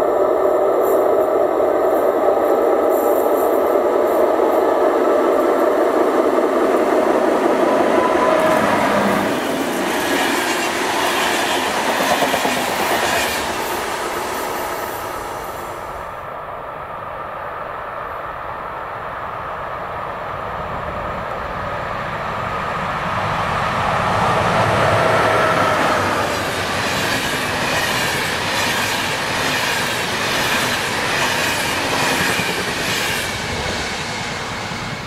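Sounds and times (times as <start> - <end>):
train rushing past: 0.0 - 35.0.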